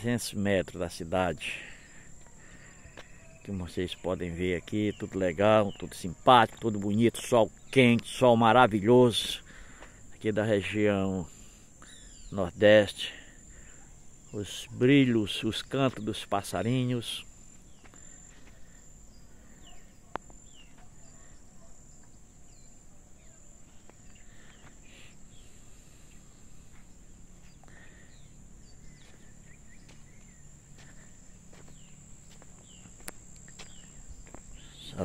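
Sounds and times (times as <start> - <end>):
birds chirping: 0.0 - 35.0
high-pitched insect drone: 0.0 - 35.0.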